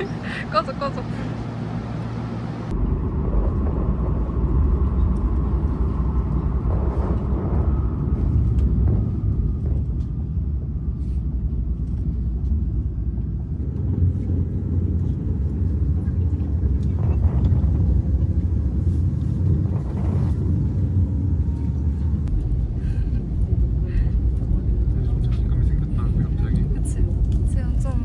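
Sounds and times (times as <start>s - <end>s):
vehicle rumbling from inside: 0.0s - 28.0s.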